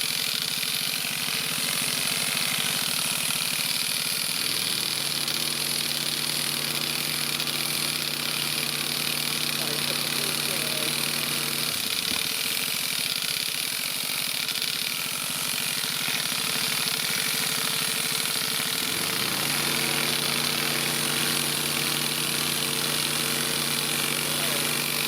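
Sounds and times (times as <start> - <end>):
fast mechanical rattle: 0.0 - 25.0
machine engine idling: 0.4 - 12.7, 13.6 - 25.0.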